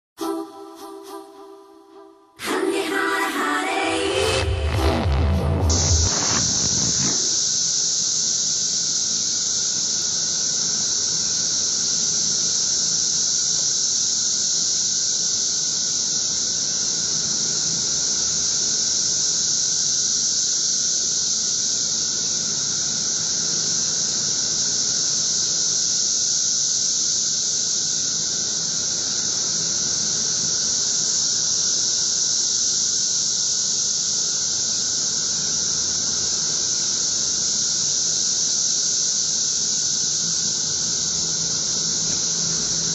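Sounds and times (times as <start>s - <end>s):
cicadas droning: 5.7s - 42.9s.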